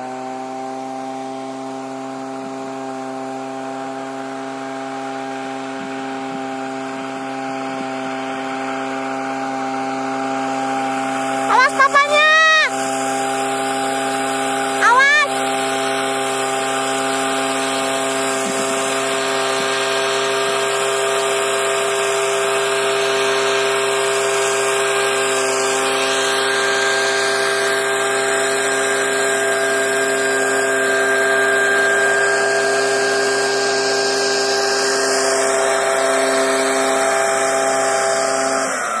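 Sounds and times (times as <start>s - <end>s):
small engine running at high speed: 0.0s - 39.0s.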